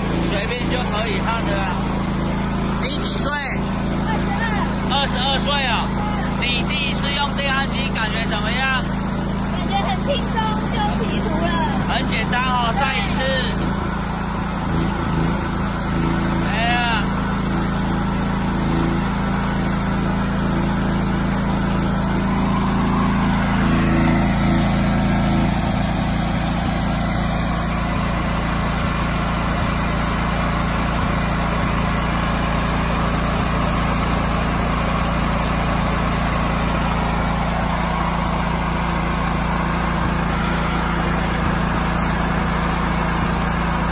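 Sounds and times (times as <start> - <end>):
petrol generator running: 0.0 - 43.9.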